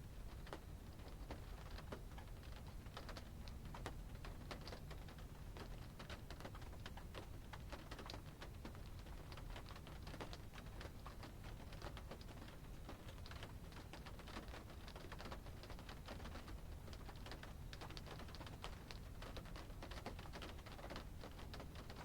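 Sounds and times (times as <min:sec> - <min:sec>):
rain pattering on car roof: 0:00.1 - 0:22.0.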